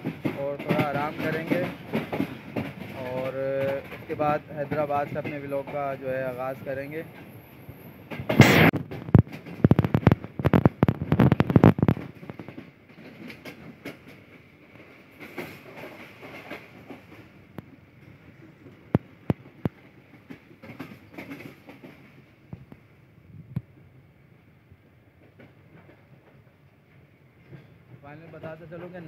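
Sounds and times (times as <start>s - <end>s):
train wheels clacking over rail joints: 0.0s - 7.3s, 8.1s - 22.9s, 25.1s - 29.0s
train rumble: 0.0s - 29.0s.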